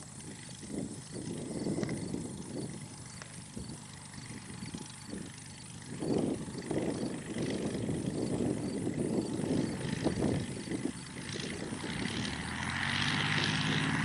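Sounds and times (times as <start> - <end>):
light aircraft engine and propeller: 0.0 - 14.0
wind buffeting microphone: 0.0 - 14.0.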